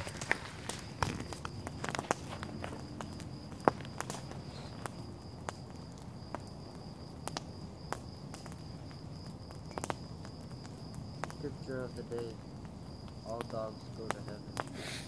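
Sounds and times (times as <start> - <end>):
campfire crackling and popping: 0.0 - 15.0
night insects trilling: 0.0 - 15.0.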